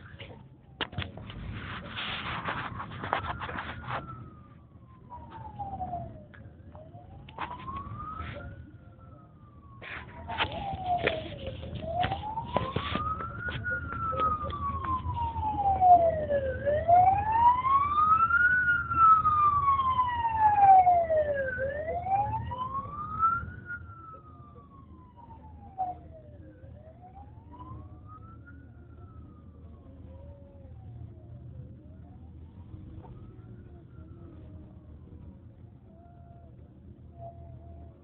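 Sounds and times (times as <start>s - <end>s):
emergency vehicle siren wailing: 0.0s - 38.0s
low traffic rumble: 0.0s - 38.0s.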